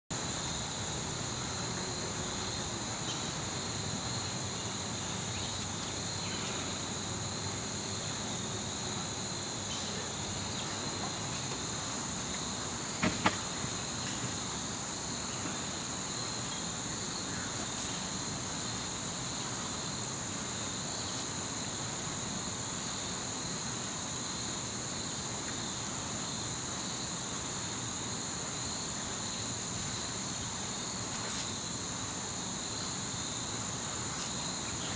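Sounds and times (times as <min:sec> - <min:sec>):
insects trilling: 0:00.1 - 0:34.9.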